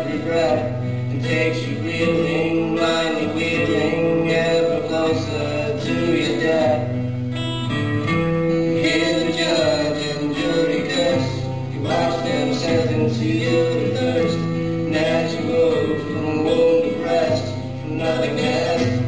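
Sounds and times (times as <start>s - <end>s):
acoustic guitars playing: 0.0s - 19.0s.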